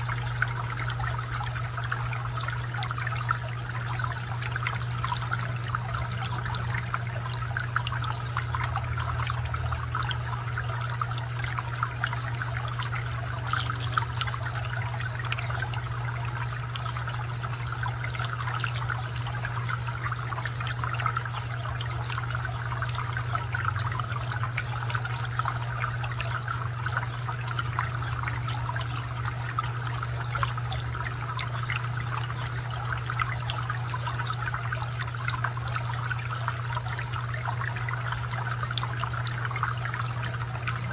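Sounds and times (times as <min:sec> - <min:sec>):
fountain water trickling and splashing: 0:00.0 - 0:40.9.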